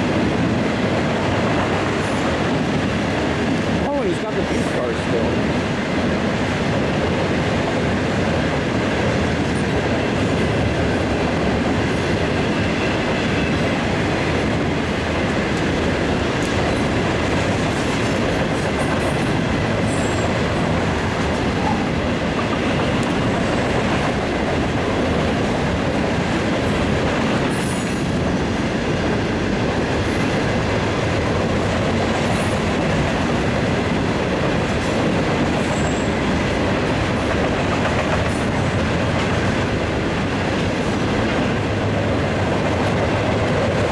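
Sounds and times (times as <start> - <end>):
clickety-clack over rail joints: 0.0 - 43.9
freight train wheels rumbling: 0.0 - 43.9.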